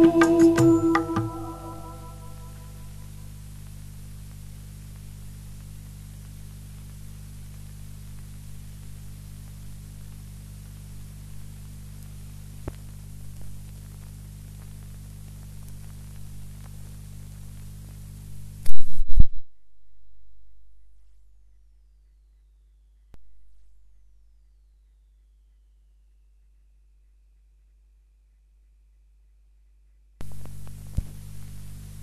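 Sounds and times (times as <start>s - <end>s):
low mains hum: 0.0s - 32.0s
tape hiss: 0.0s - 32.0s.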